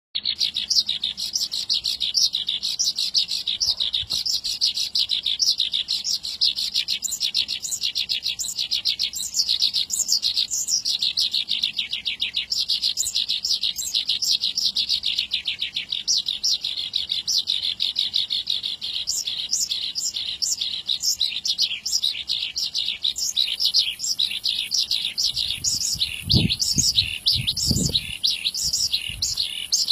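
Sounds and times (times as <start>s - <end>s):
lark singing rapid chirps: 0.2s - 29.9s.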